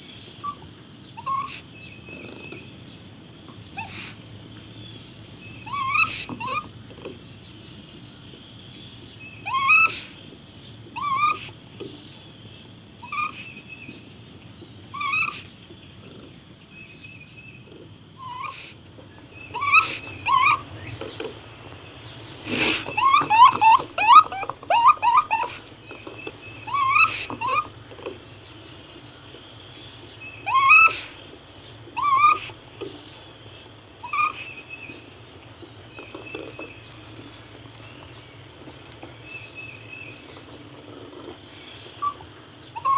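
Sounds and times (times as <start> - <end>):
raccoon calling: 0.0 - 16.8, 17.4 - 42.9.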